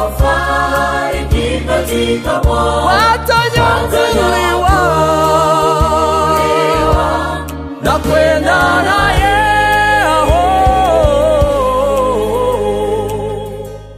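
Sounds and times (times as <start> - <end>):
mixed choir singing: 0.0 - 13.7.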